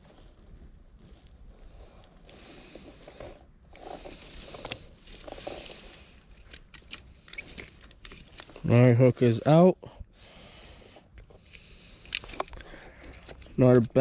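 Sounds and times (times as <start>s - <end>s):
faint rustling: 0.0s - 13.8s.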